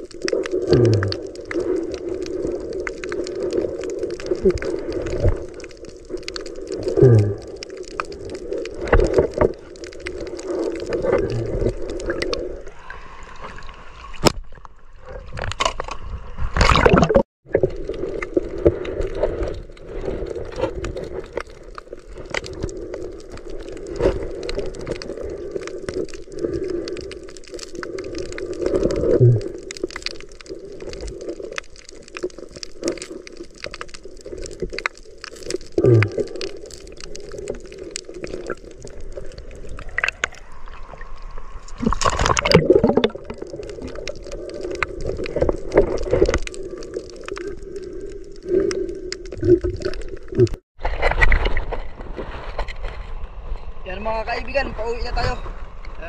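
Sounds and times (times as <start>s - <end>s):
clicks and knocks underwater: 0.0s - 53.7s
underwater water hum: 0.0s - 53.8s.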